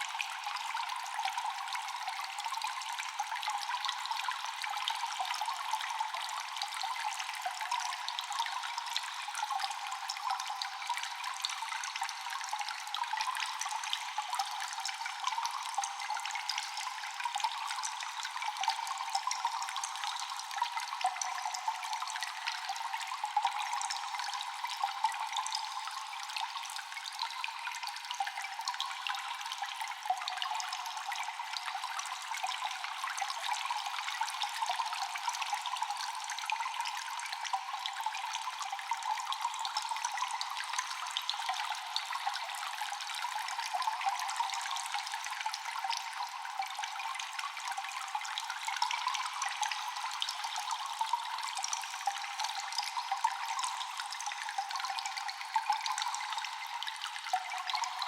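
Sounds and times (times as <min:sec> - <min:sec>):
trickling water: 0:00.0 - 0:58.0
water dripping in a cave: 0:00.0 - 0:58.0.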